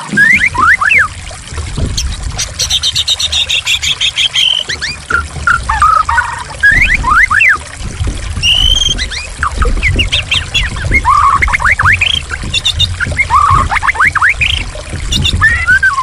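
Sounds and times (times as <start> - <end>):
bird singing whistles: 0.0 - 1.1, 2.6 - 7.6, 8.4 - 16.0
trickling splashing water: 0.0 - 16.0.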